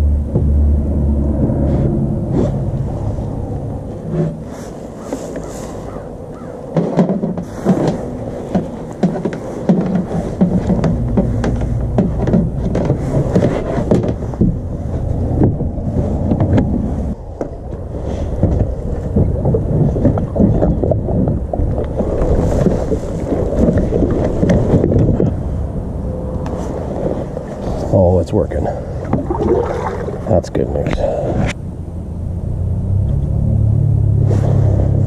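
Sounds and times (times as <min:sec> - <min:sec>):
wind buffeting microphone: 0:00.0 - 0:31.6.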